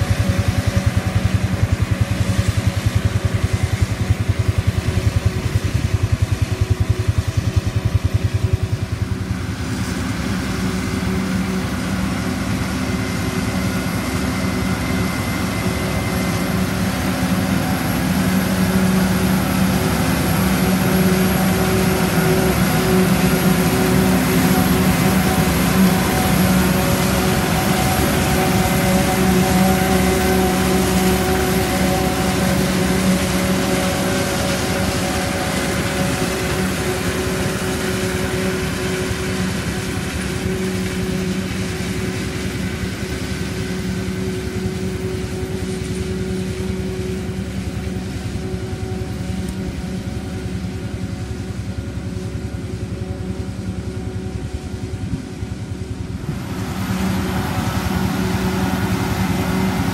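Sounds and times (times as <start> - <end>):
heavy farm machinery engine running: 0.0 - 59.9.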